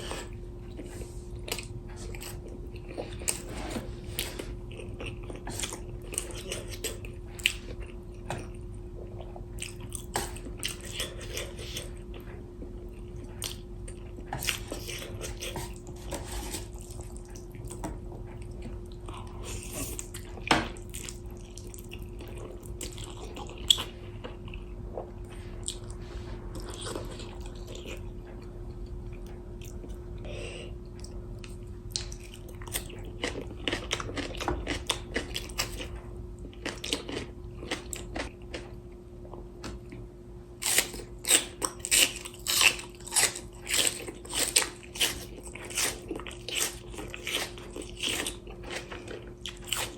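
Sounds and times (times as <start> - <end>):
chewing with wet mouth noises: 0.0 - 49.9
steady low hum: 0.0 - 49.9.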